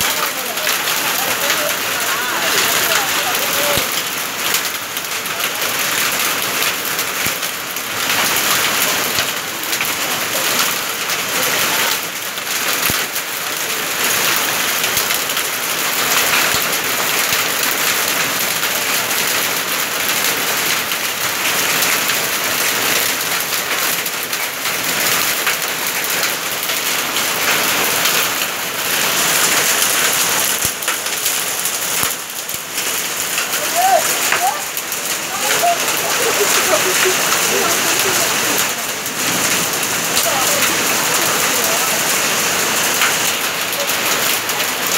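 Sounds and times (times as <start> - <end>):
heavy rain and hail on water: 0.0 - 44.9.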